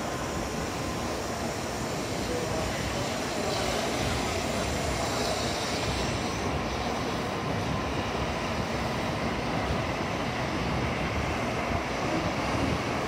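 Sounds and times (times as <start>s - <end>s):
bullet train passing: 0.0s - 13.0s.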